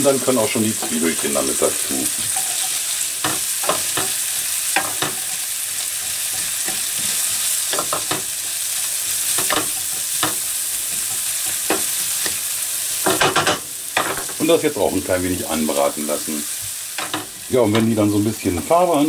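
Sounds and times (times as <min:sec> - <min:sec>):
onions and bacon sizzling: 0:00.0 - 0:19.0.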